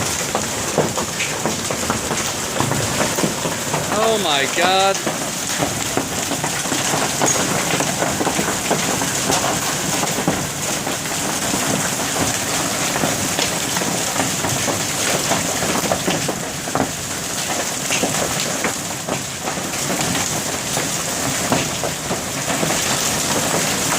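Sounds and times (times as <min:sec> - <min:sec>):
hailstones clattering: 0:00.0 - 0:23.9
heavy rain hiss: 0:00.0 - 0:23.9.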